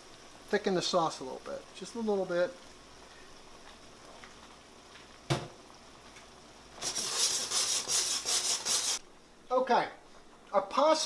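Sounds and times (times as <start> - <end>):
sauce sizzling in pan: 0.0 - 9.3.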